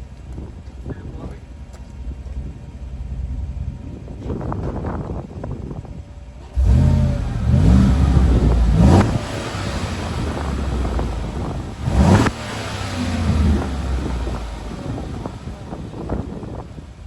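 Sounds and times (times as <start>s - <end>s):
truck engine idling and revving: 0.0s - 17.0s
wind buffeting microphone: 3.3s - 17.0s.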